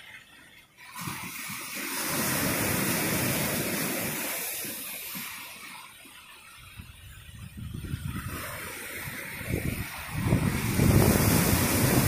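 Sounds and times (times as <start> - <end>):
wave washing over rocks: 0.0 - 12.0.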